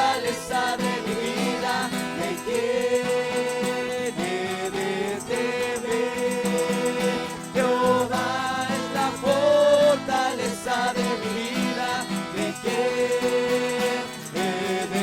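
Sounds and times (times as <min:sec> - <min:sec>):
slow worship music melody: 0:00.0 - 0:15.0.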